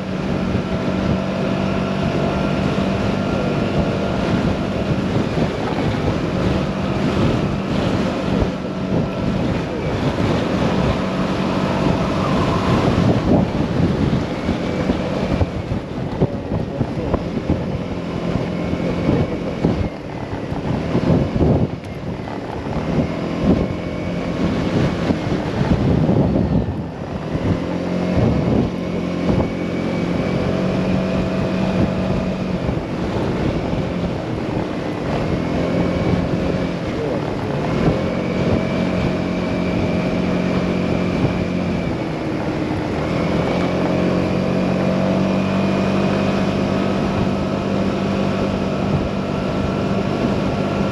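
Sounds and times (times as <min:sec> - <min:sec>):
motorcycle engine running: 0:00.0 - 0:50.9
wind buffeting on microphone: 0:00.0 - 0:50.9.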